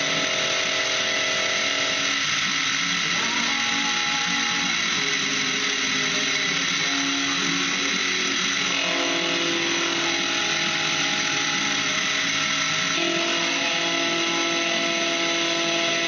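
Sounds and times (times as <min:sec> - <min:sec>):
milling machine whining: 0:00.0 - 0:16.0.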